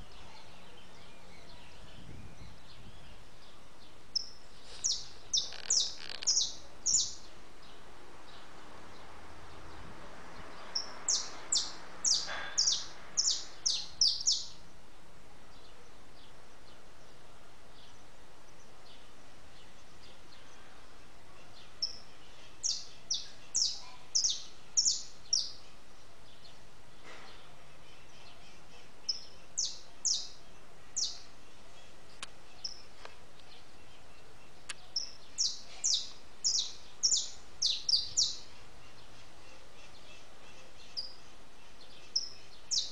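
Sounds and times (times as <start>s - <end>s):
songbird calling: 0.0s - 9.1s, 10.5s - 14.7s, 21.4s - 42.9s.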